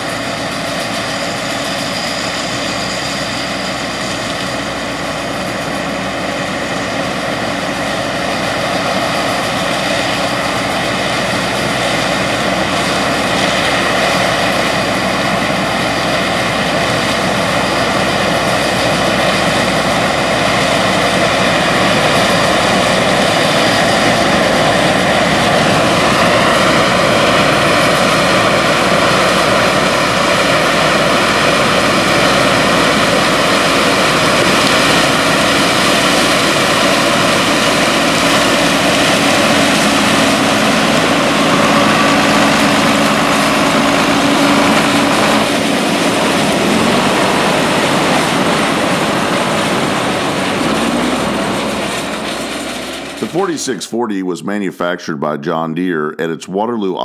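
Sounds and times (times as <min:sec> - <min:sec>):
diesel engines and harvesting machinery: 0:00.0 - 0:54.8.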